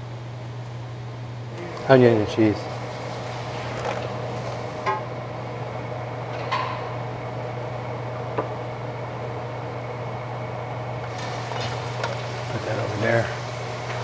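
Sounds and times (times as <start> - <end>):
kitchen appliance humming: 1.2 - 14.0.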